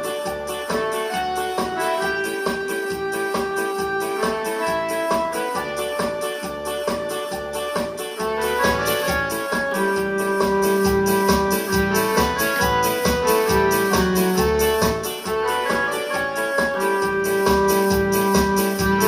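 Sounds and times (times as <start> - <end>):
electronic keyboard dance music: 0.0 - 19.0.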